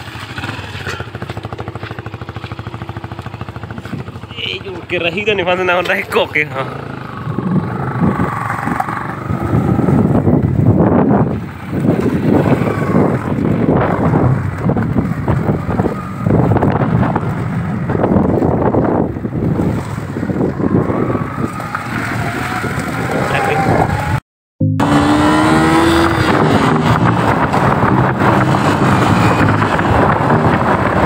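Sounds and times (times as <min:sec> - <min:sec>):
motorcycle engine: 0:00.0 - 0:31.0
wind buffeting microphone: 0:01.1 - 0:24.2, 0:24.9 - 0:31.0.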